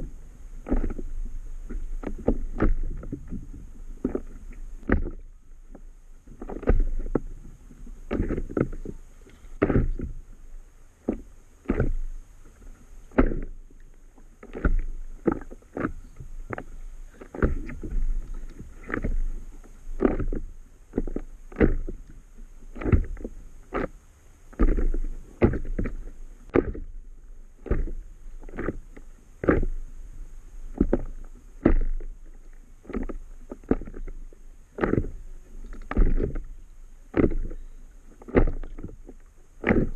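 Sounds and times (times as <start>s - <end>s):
waves slapping against paddle board: 0.0s - 39.9s.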